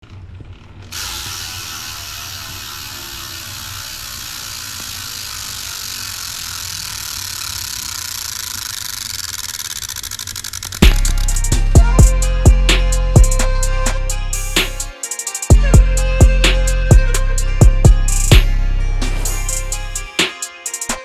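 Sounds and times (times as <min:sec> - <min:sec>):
bicycle freewheel ticking: 0:00.1 - 0:18.4, 0:19.3 - 0:21.0.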